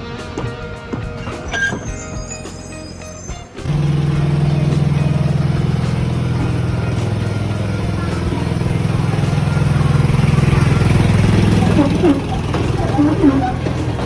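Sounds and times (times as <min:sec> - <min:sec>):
trolley rattling: 0:00.0 - 0:14.0
trolley train motor droning: 0:00.0 - 0:14.0.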